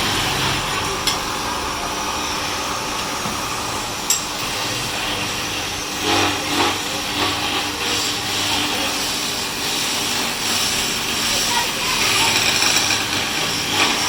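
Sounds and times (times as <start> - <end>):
woodworking machinery running: 0.0 - 14.0.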